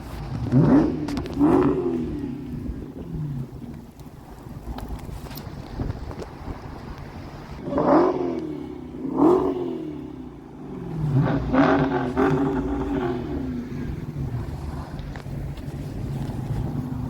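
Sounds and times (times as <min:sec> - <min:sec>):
car engine revving: 0:00.0 - 0:05.6, 0:06.3 - 0:17.0.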